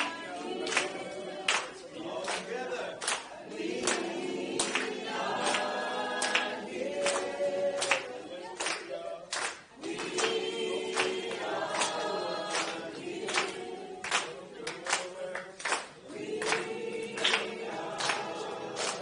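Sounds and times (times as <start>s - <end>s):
group singing without instruments: 0.0s - 19.0s
sharp claps: 0.0s - 19.0s.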